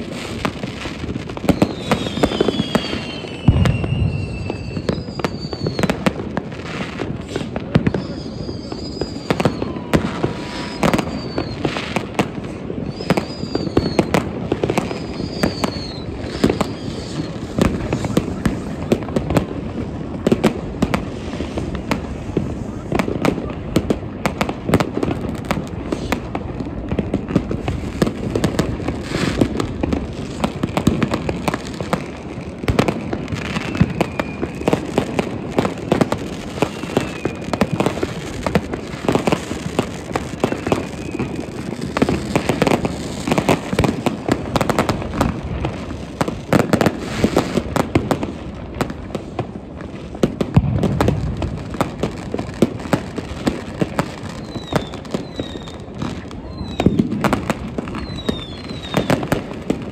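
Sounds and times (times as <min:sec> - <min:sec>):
firework whistles: 0:00.0 - 0:59.9
fireworks and firecrackers banging: 0:00.0 - 0:59.9.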